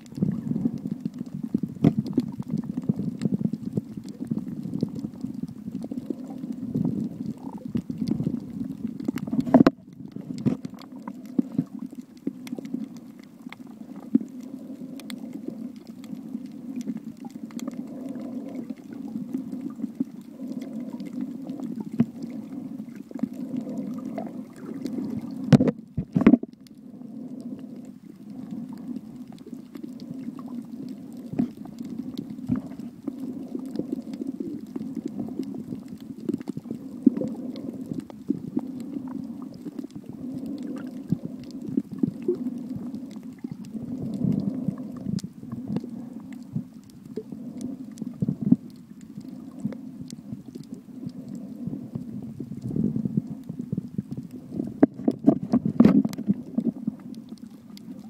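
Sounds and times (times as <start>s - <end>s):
faint clicks: 0.0s - 58.0s
underwater water rumble: 0.0s - 58.0s.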